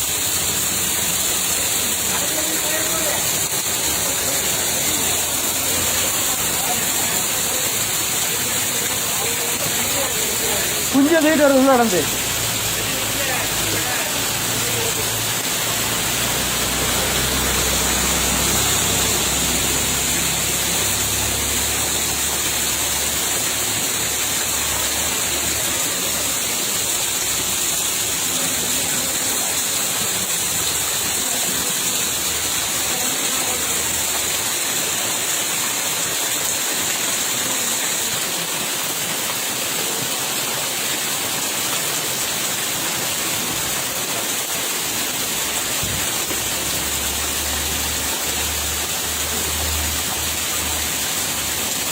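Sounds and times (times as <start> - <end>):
rushing water: 0.0 - 51.9.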